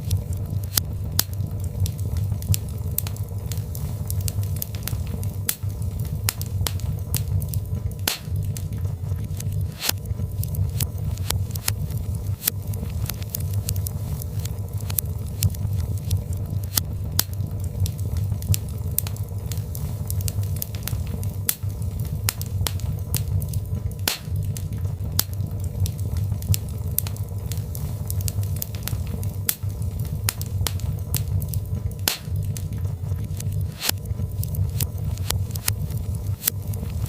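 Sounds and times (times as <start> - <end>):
log fire crackling and popping: 0.0 - 37.0
low rumble of flames: 0.0 - 37.0.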